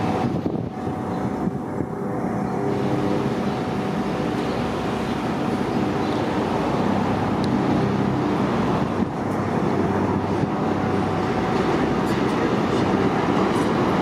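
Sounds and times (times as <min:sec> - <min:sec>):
subway train on elevated track: 0:00.0 - 0:14.0.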